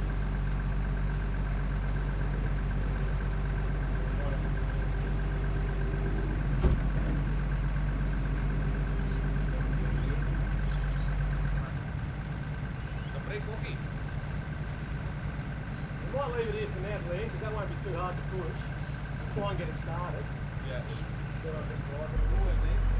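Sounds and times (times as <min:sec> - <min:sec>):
truck engine idling: 0:00.0 - 0:22.9.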